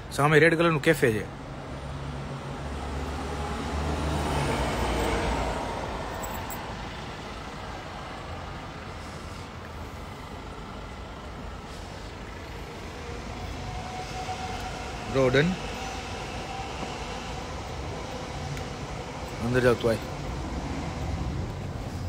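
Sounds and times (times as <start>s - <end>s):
street traffic noise: 0.0s - 22.0s
vehicle engine hum: 0.7s - 22.0s.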